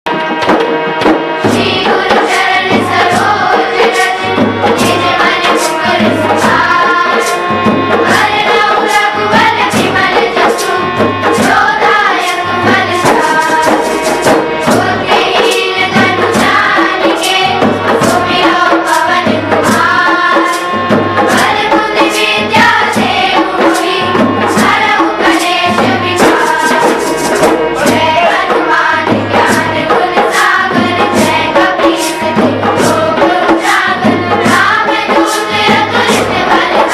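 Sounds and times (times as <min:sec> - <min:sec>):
steady percussion beat: 0:00.1 - 0:36.9
voices singing devotional song: 0:00.9 - 0:36.9.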